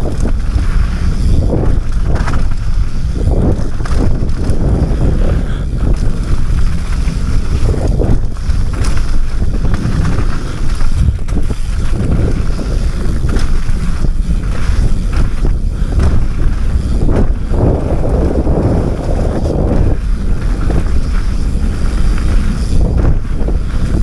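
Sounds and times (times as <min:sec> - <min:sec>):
bike knocking over rough ground: 0:00.0 - 0:24.0
low rumble: 0:00.0 - 0:24.0
wind rushing over microphone: 0:00.0 - 0:24.0.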